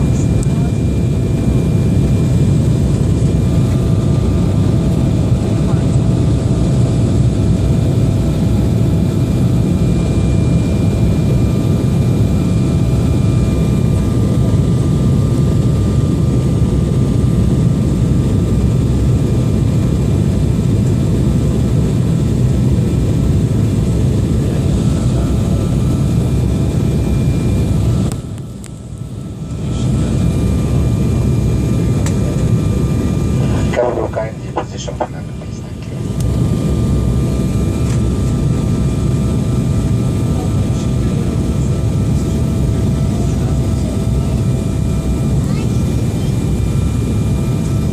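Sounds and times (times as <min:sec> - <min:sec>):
aeroplane rushing drone: 0:00.0 - 0:47.9.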